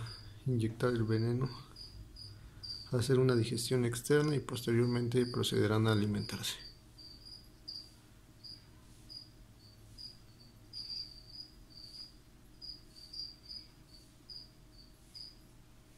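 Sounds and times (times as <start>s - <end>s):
cricket chirping: 0.0s - 3.4s, 4.2s - 15.5s
low steady hum: 0.0s - 15.9s.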